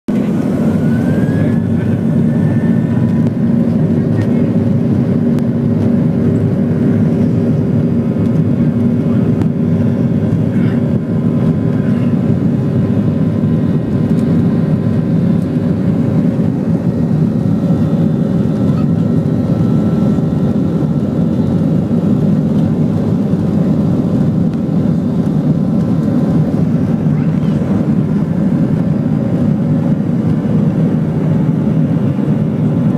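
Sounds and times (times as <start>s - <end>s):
jet engines rumbling: 0.1s - 32.9s.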